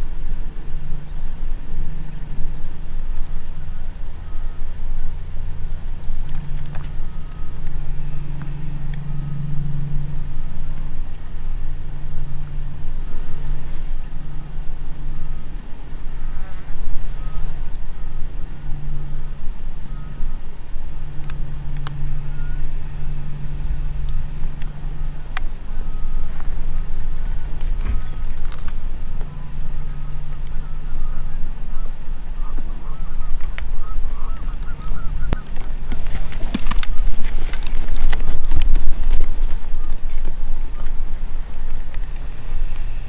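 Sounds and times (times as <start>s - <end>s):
insects chirping: 0.0s - 43.0s
low droning hum: 0.0s - 43.0s.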